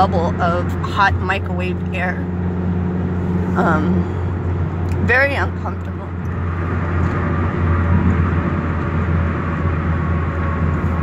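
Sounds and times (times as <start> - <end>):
low car cabin drone: 0.0 - 11.0.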